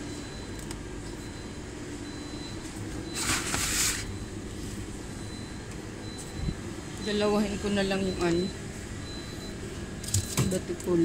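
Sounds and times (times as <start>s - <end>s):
refrigeration hum: 0.0s - 11.0s.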